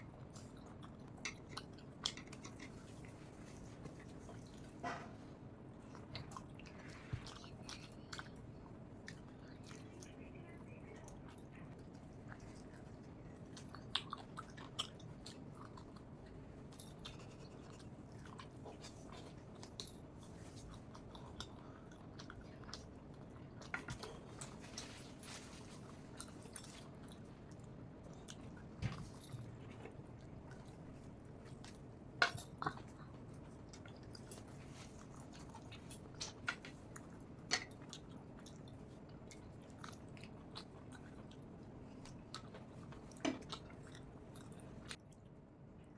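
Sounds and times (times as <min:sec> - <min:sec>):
person chewing food: 0:00.0 - 0:10.1, 0:11.2 - 0:45.9.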